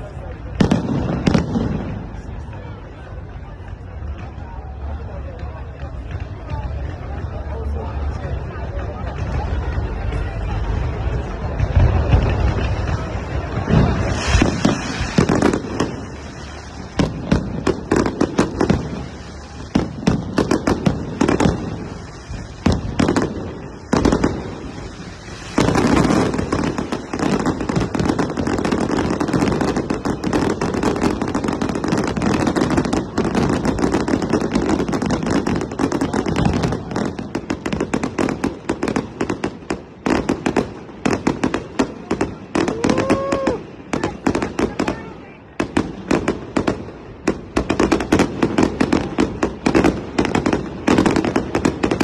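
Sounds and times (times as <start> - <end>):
fireworks banging and crackling: 0.0 - 52.0.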